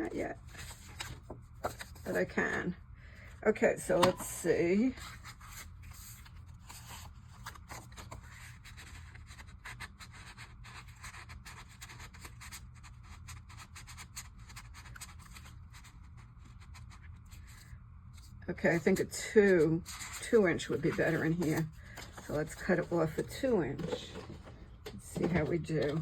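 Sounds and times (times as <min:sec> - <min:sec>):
paper scratching and rustling: 0:00.4 - 0:02.4, 0:04.9 - 0:26.0.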